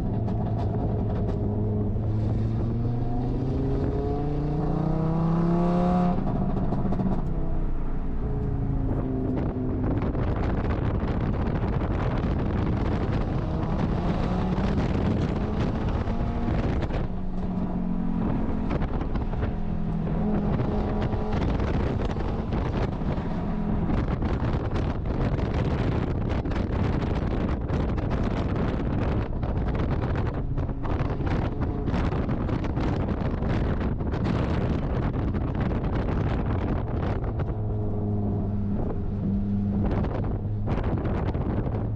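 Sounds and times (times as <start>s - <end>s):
wind and road noise: 0.0s - 41.9s.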